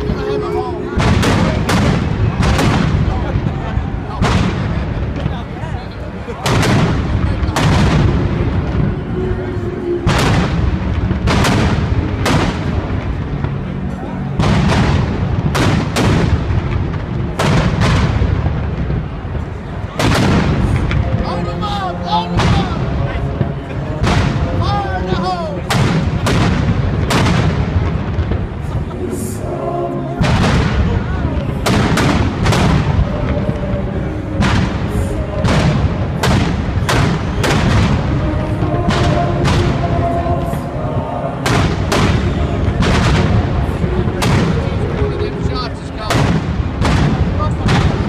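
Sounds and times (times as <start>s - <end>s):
faint music: 0.0s - 48.0s
fireworks bangs: 0.0s - 48.0s
low rumble of reports and echo: 0.0s - 48.0s.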